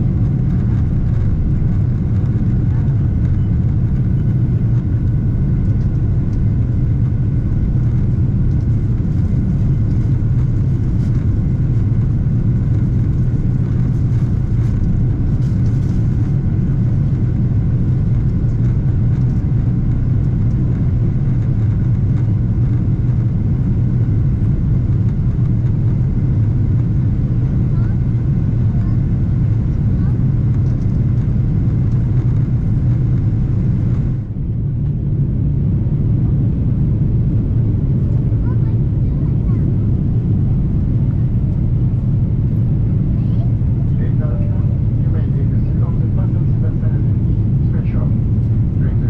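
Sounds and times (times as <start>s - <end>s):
jet engine rumble: 0.0s - 49.0s.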